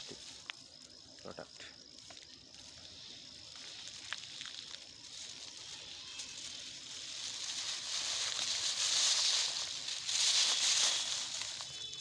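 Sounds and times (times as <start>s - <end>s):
plastic and undergrowth rustling: 0.0s - 0.8s, 2.0s - 12.0s.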